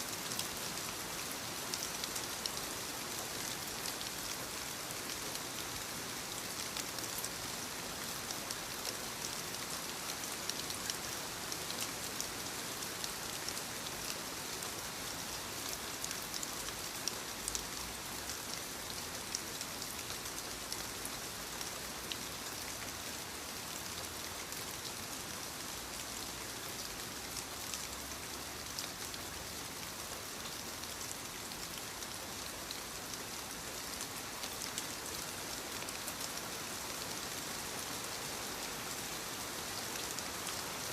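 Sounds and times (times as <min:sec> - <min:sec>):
rain pattering: 0:00.1 - 0:40.9.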